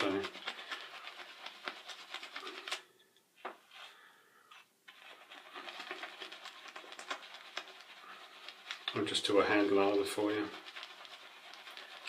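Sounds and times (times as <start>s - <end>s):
shaving brush lathering soap: 0.0s - 2.9s, 4.9s - 12.0s.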